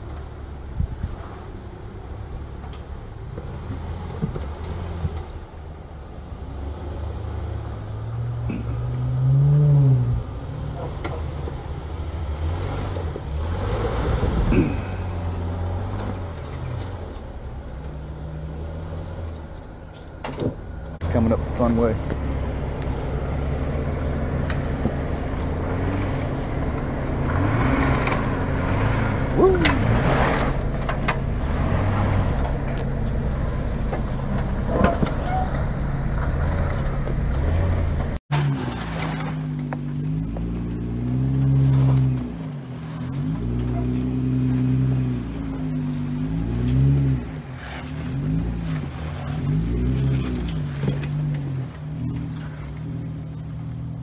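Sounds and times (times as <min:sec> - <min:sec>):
car engine running at low revs: 0:00.0 - 0:54.0
tyres on dirt: 0:00.0 - 0:54.0
engine revving: 0:06.6 - 0:17.2, 0:21.0 - 0:54.0.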